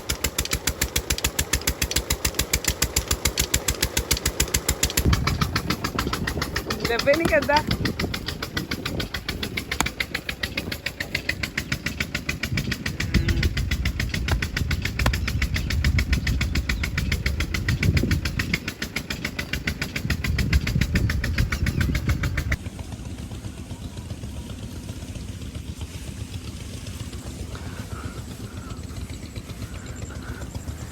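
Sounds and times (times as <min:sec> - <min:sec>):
engine running with rapid beat: 0:00.0 - 0:30.9.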